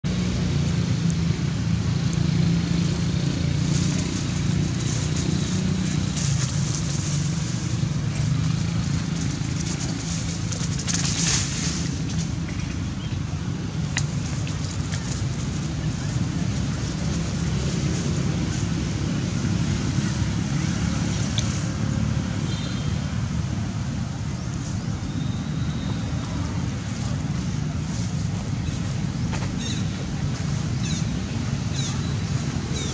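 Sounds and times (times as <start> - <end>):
leaves crackling under running animals: 0.1 - 32.9.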